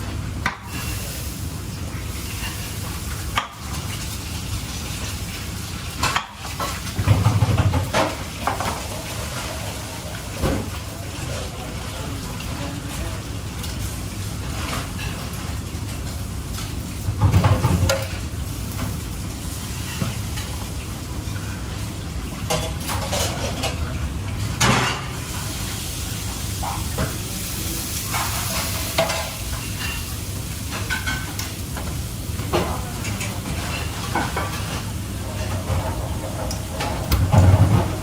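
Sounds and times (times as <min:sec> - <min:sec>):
food sizzling in a pan: 0:00.0 - 0:36.9.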